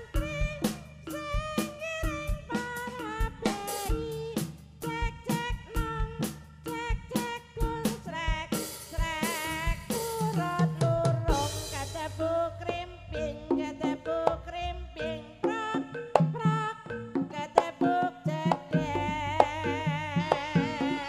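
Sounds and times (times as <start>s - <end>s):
gamelan music over sound system: 0.0s - 6.8s, 8.6s - 21.0s.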